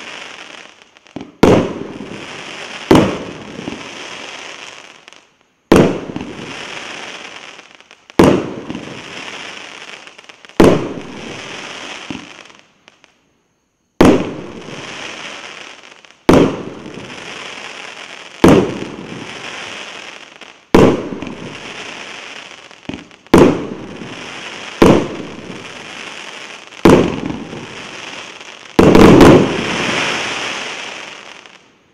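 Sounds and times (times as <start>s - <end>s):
fireworks bangs: 0.0s - 13.2s, 14.0s - 31.7s
hiss and crackle of burning stars: 0.0s - 31.9s.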